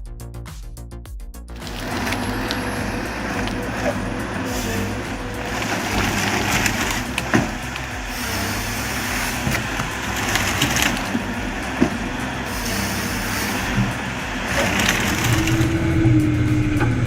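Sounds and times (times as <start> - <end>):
diesel machine running: 1.5 - 17.0
wood cracking and splintering: 1.6 - 15.9.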